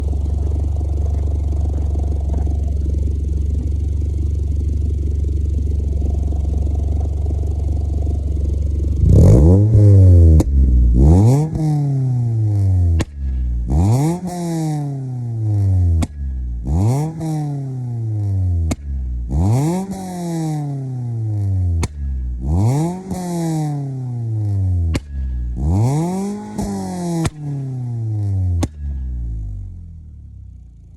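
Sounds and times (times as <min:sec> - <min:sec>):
car engine revving: 0:00.0 - 0:29.6
exhaust crack: 0:00.0 - 0:29.8.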